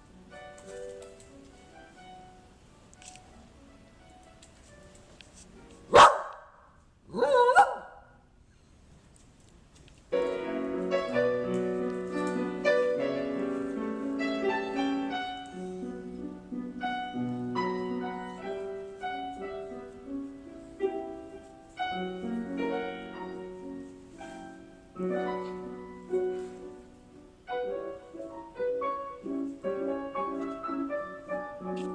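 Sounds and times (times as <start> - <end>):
solo classical piano: 0.0 - 6.4, 10.0 - 31.9.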